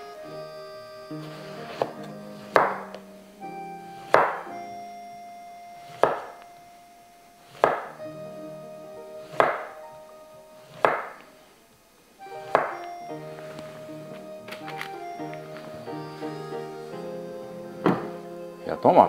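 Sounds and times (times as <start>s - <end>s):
background music with held notes: 0.0s - 19.0s.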